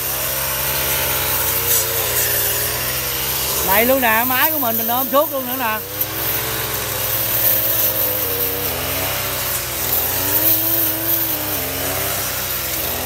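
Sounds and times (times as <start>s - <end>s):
brush cutter engine: 0.0s - 13.0s.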